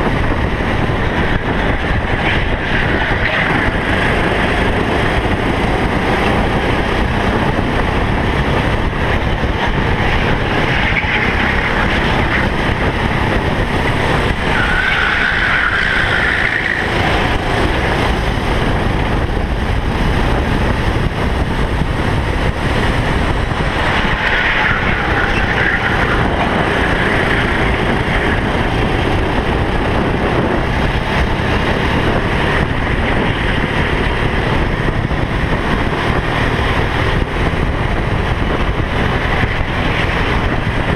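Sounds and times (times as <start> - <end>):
kart engine running hard: 0.0 - 40.9
other karts passing: 0.0 - 40.9
wind rush: 0.0 - 40.9.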